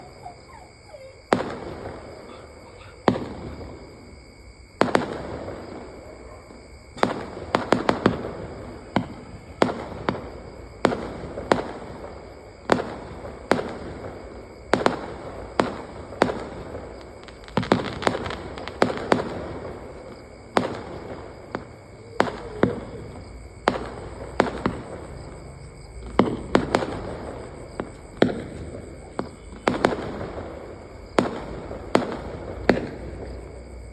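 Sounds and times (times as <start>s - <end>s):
firecrackers banging: 0.0s - 33.9s.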